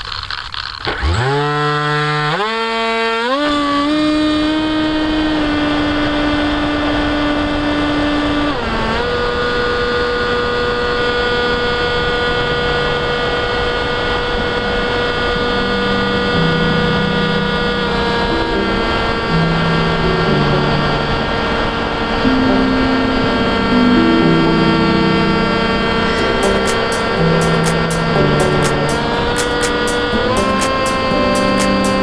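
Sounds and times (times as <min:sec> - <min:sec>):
electric rc plane motor whine: 0:00.0 - 0:22.3, 0:24.5 - 0:32.0.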